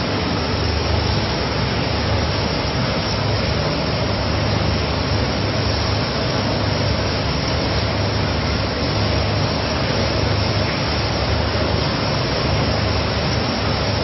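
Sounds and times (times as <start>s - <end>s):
even rushing noise: 0.0s - 14.0s.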